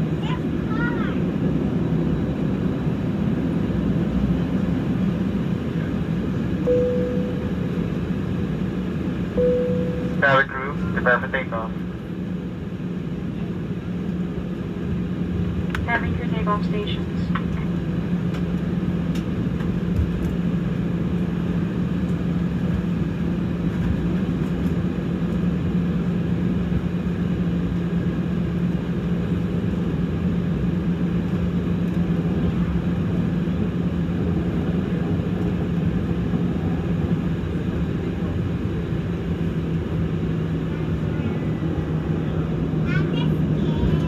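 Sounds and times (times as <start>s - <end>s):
jet engines humming in cabin: 0.0s - 44.0s.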